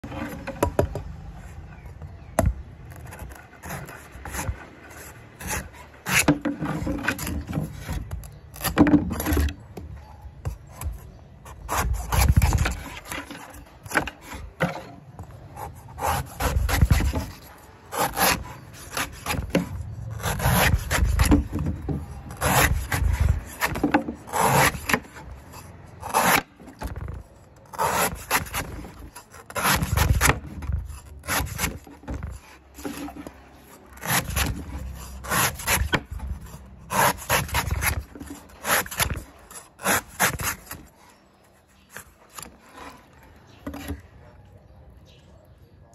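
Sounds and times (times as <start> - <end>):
cleaver scraping coconut husk: 0.0 - 44.2.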